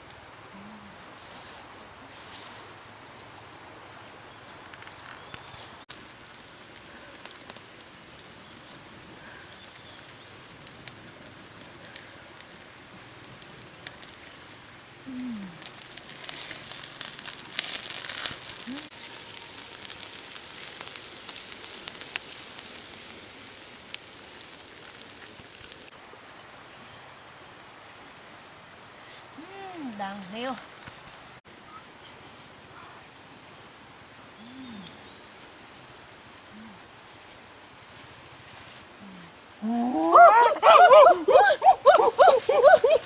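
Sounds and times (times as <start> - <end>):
campfire crackling and hissing: 0.0 - 43.0.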